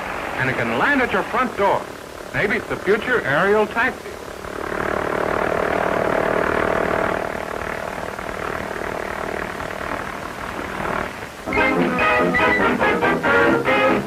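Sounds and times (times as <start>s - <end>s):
propeller aircraft engine droning: 0.0s - 14.0s.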